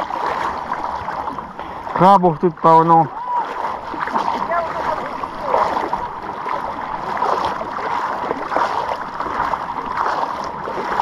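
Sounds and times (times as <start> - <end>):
small waves splashing at shoreline: 0.0 - 11.0.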